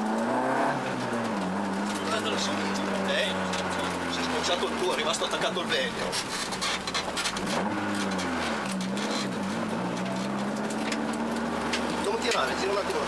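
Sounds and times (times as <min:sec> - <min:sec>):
rally car engine: 0:00.0 - 0:13.0.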